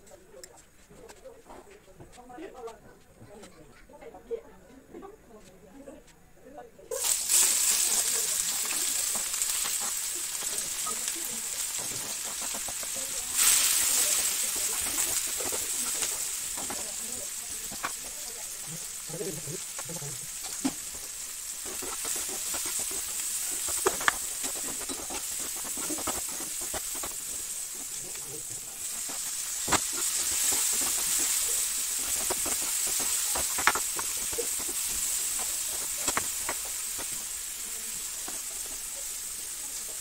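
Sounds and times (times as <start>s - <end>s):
vegetables sizzling in hot oil: 6.9s - 40.0s
spatula scraping a pan: 7.0s - 40.0s.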